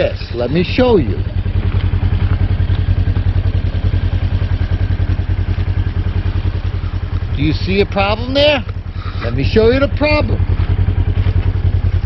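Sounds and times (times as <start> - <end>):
utility vehicle engine idling: 0.0 - 12.0.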